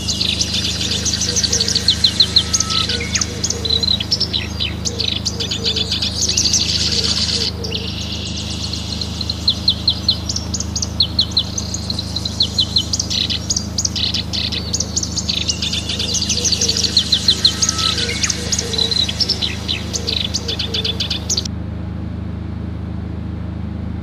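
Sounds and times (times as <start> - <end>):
songbirds chirping and singing: 0.0 - 21.5
steady low hum: 0.0 - 24.0.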